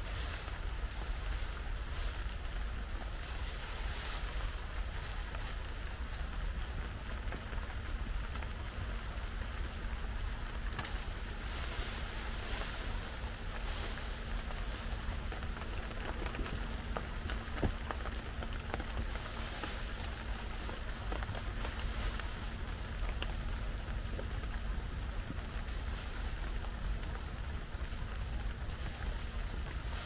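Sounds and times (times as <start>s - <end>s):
heavy rain: 0.0s - 30.0s
wind rumble on microphone: 0.0s - 30.0s.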